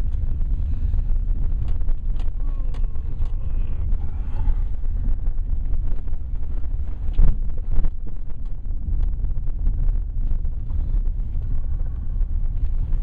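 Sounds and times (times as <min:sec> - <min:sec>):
vehicle rumble inside cabin: 0:00.0 - 0:13.0.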